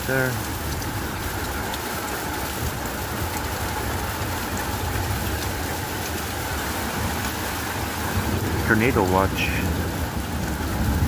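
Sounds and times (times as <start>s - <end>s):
heavy rain on a tin roof: 0.0s - 11.0s
water overflowing: 0.0s - 11.0s.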